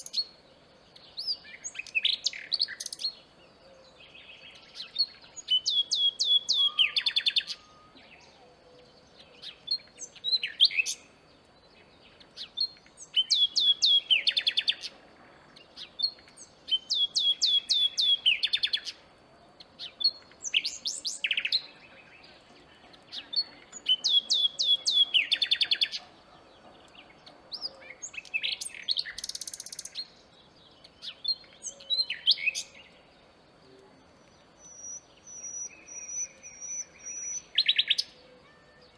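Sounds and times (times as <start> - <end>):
nightingale singing: 0.0 - 38.9.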